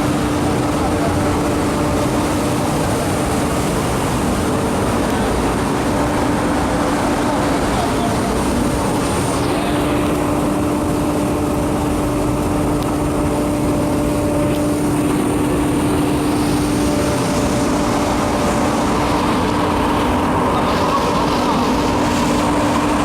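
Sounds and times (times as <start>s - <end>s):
blower fan hum: 0.0s - 23.0s
burner rush of air and fire: 0.0s - 23.0s.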